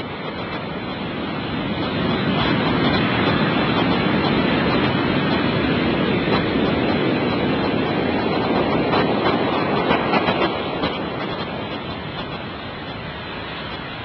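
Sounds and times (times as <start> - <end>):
heavy ocean surf: 0.0 - 14.0.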